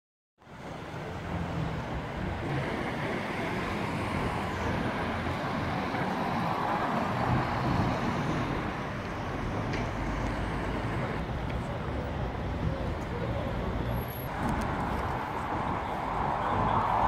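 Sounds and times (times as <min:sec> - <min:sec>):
cars passing: 0:00.4 - 0:17.0.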